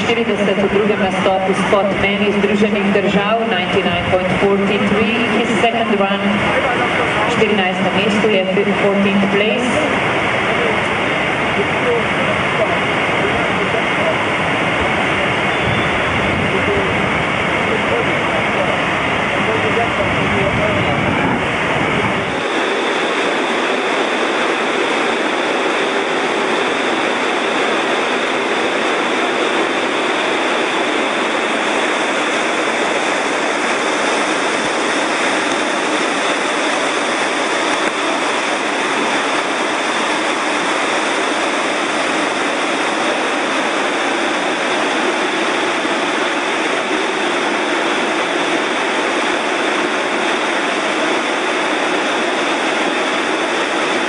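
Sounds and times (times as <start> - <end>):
whitewater rapids rushing: 0.0 - 54.0.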